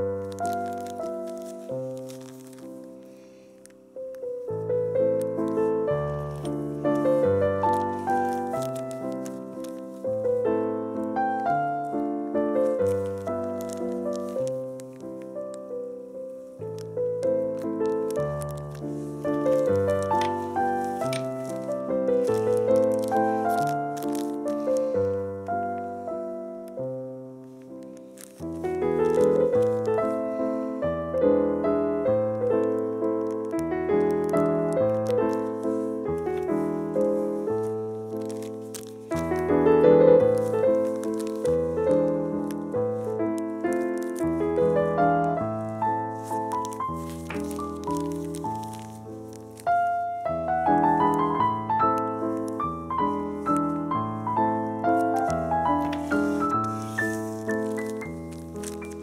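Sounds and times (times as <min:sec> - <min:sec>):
background piano music: 0:00.0 - 0:59.0.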